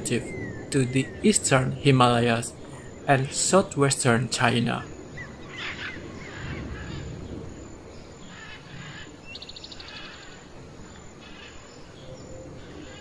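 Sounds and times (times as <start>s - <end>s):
birds chirping: 0.0s - 13.0s
steady hiss: 0.0s - 13.0s.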